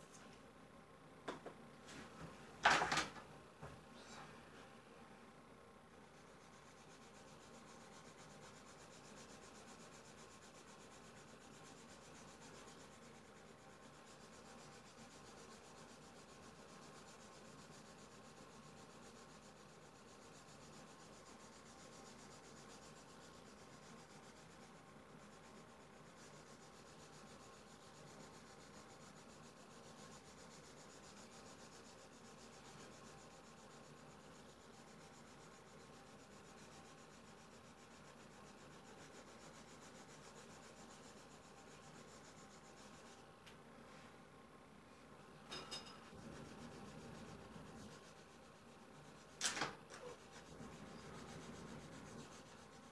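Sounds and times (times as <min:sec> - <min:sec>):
pastel rubbing on paper: 0:06.1 - 0:43.3, 0:46.1 - 0:49.4, 0:50.0 - 0:52.9.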